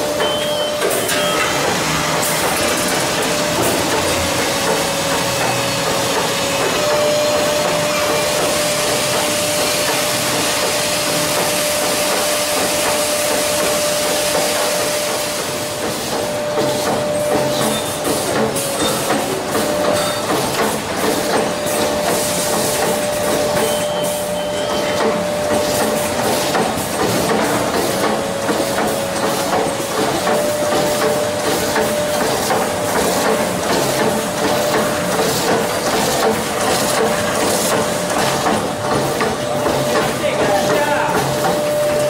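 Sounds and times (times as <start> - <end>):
machine clatter: 0.0 - 42.0.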